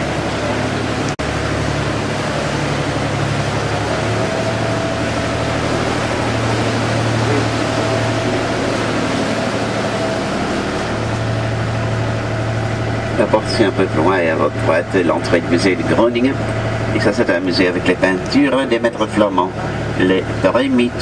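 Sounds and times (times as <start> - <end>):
boat motor droning: 0.0 - 21.0.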